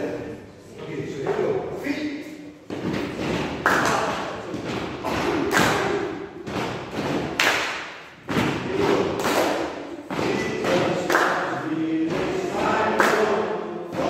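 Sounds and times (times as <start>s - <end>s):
rhythmic loud thumps: 2.6s - 14.0s.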